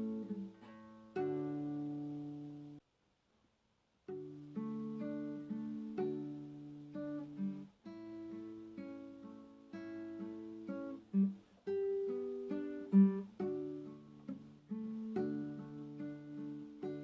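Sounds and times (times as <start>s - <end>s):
acoustic guitar piece: 0.0s - 2.8s, 4.0s - 17.0s.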